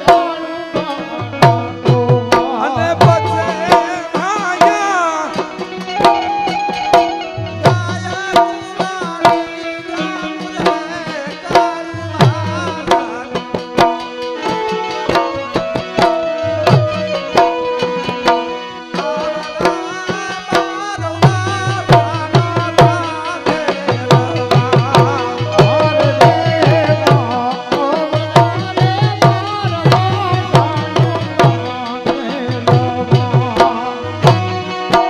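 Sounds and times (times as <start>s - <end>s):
hand drum rhythm: 0.0s - 35.0s
harmonium: 0.0s - 35.0s
keyed banjo melody: 0.0s - 35.0s.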